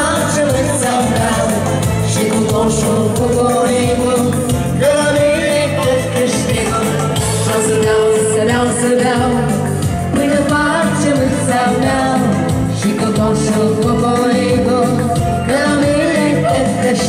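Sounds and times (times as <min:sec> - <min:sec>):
live band music: 0:00.0 - 0:17.0
woman and man singing duet: 0:00.0 - 0:17.0.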